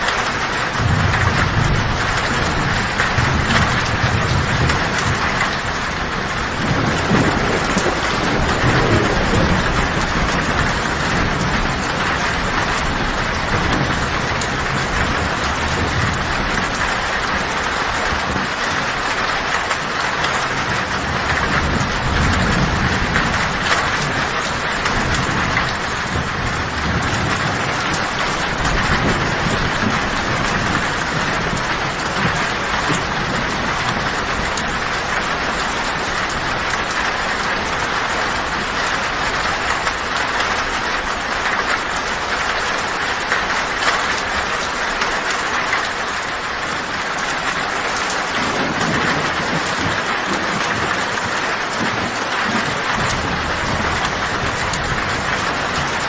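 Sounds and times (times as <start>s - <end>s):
heavy rain on a tin roof: 0.0s - 56.0s
low thunder rumbling: 0.0s - 56.0s.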